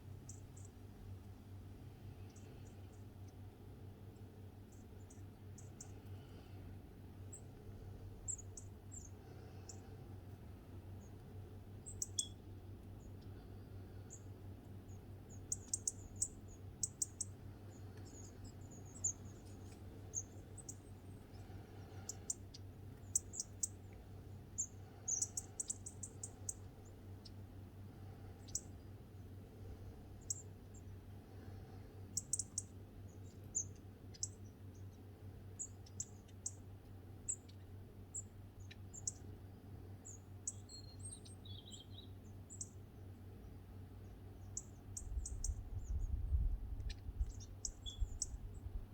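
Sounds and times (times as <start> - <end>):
small birds chirping: 0.0 - 48.9
steady low hum: 0.0 - 48.9.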